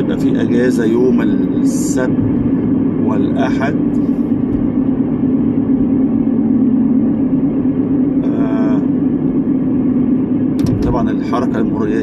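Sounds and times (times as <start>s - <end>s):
car cabin engine and tyre drone: 0.0s - 12.0s.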